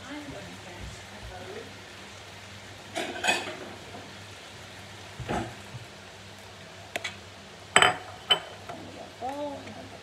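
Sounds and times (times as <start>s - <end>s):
kitchen hum and hiss: 0.0s - 10.0s.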